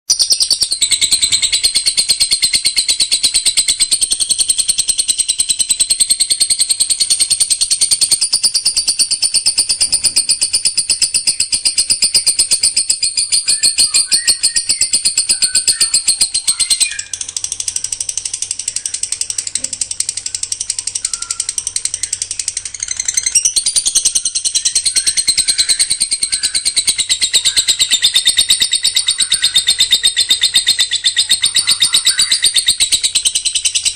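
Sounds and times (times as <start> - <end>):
songbird rapid high notes: 0.1 - 33.9.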